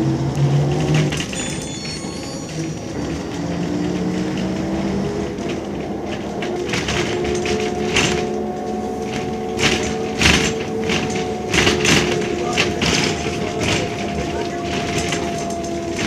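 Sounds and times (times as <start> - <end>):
bus body knocks and rattles: 0.0 - 16.0
bus diesel engine pulling: 0.0 - 16.0.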